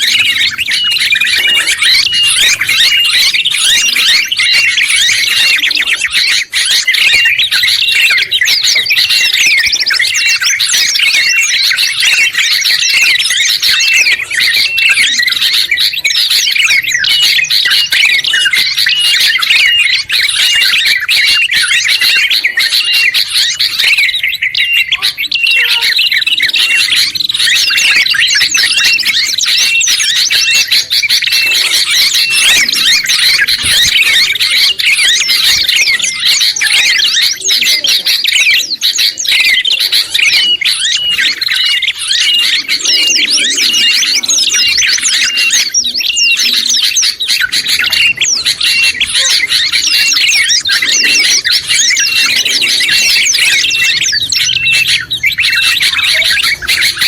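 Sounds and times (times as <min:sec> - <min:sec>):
chorus of songbird chirps: 0:00.0 - 0:57.0.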